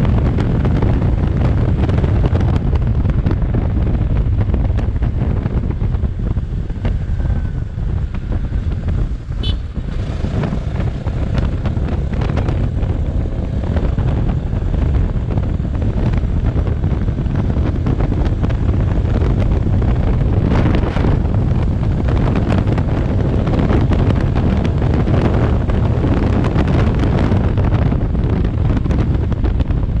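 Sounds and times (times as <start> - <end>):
motorcycle engine running: 0.0 - 30.0
wind rumble on microphone: 0.0 - 30.0.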